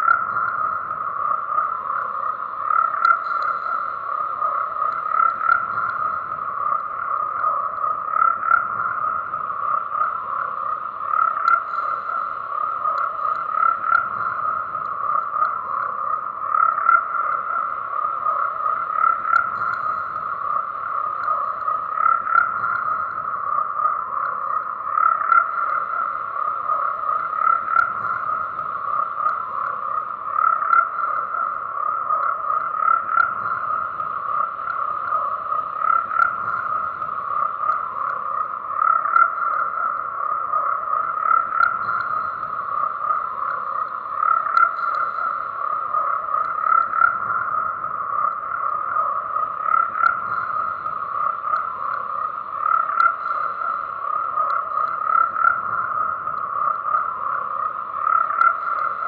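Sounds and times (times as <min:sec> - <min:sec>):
chorus of frogs croaking: 0:00.0 - 0:59.0.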